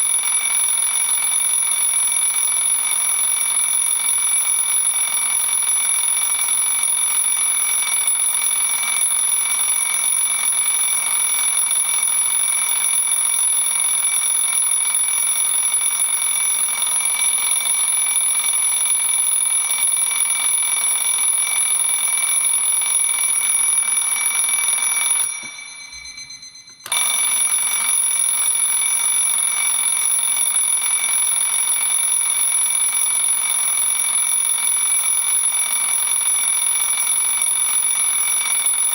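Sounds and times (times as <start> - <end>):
alarm clock bells ringing: 0.0 - 38.9.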